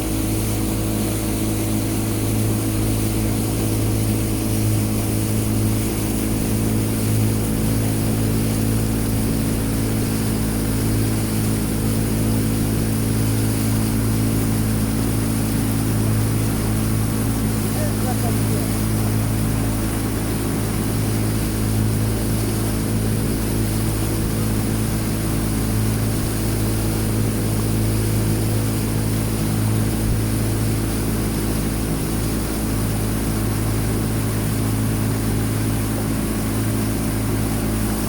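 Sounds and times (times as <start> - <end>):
engine droning: 0.0 - 38.0.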